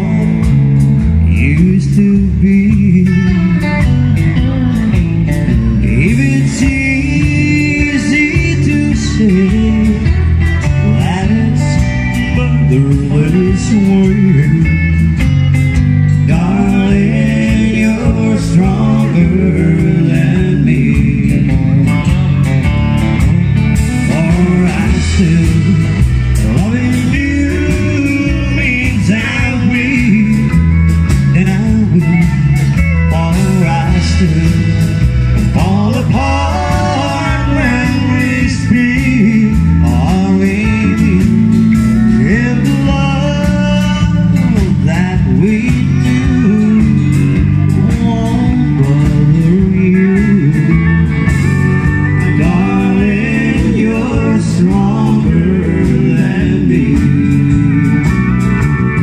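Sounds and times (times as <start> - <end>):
live country blues rock band: 0.0 - 59.0.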